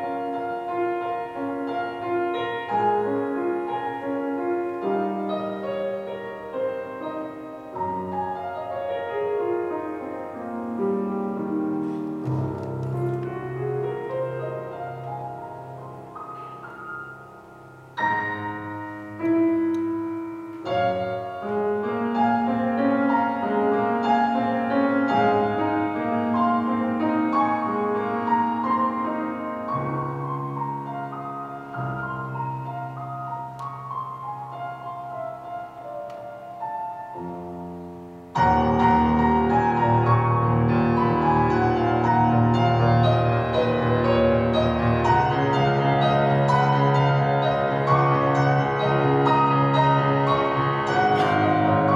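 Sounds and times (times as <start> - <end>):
solo piano: 0.0 - 51.9.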